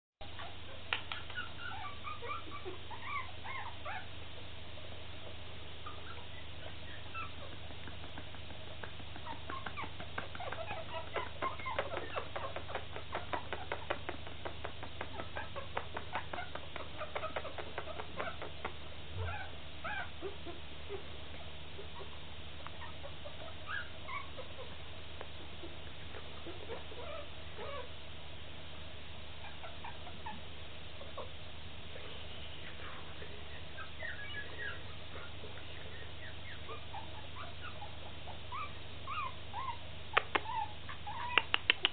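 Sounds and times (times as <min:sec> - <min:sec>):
puppies squeaking and whimpering: 0:00.2 - 0:04.1, 0:05.2 - 0:24.8, 0:25.6 - 0:27.9, 0:29.4 - 0:31.4, 0:32.3 - 0:41.9.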